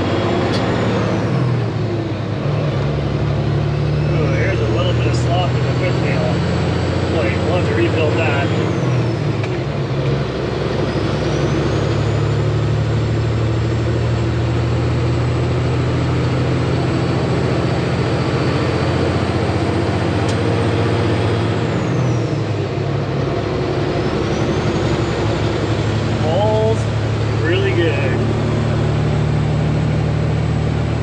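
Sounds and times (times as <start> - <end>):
diesel truck engine drone: 0.0 - 31.0.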